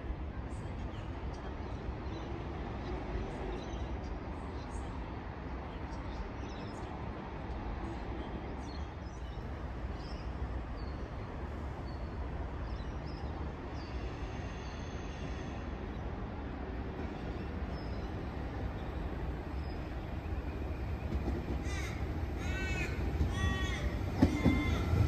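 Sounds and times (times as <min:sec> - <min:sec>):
electric train rumbling on tracks: 0:00.0 - 0:25.0.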